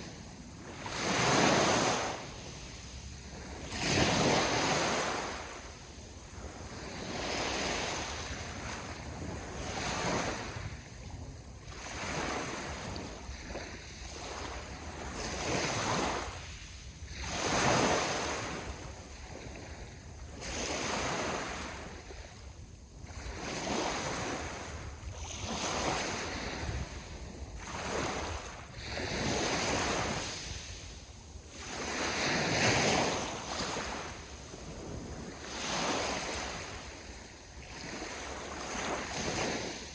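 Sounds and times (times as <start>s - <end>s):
sea waves breaking on shore: 0.0s - 39.9s
wind on microphone: 0.0s - 39.9s.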